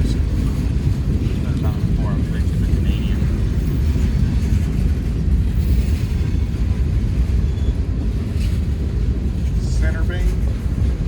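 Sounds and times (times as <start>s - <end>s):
freight cars rumbling on rails: 0.0s - 11.0s.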